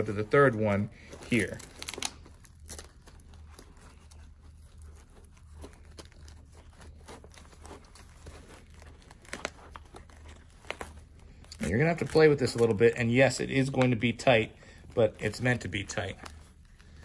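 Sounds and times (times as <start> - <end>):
nylon strap rustling and scraping: 0.0 - 17.0.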